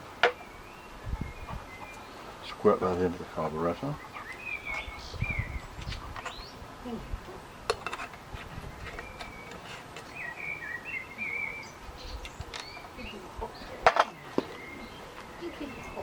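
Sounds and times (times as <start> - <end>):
songbird chirping and warbling: 0.0 - 16.0.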